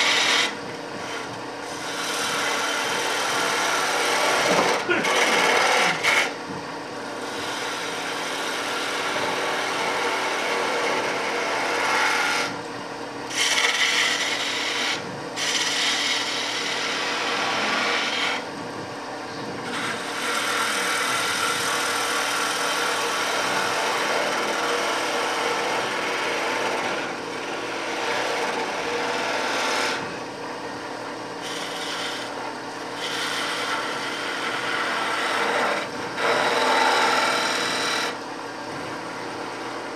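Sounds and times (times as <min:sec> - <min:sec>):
turning tool cutting wood: 0:00.0 - 0:12.7, 0:13.3 - 0:18.7, 0:19.4 - 0:30.2, 0:30.9 - 0:39.9
faint motor hum: 0:00.0 - 0:39.9.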